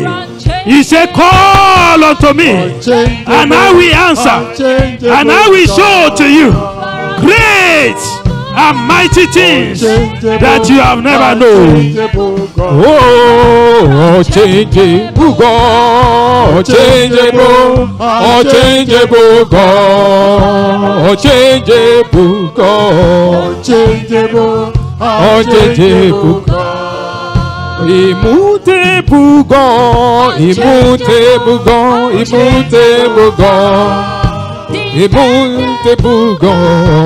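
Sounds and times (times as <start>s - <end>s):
sustained instrumental accompaniment: 0.0s - 37.0s
voices singing worship song: 0.0s - 37.0s.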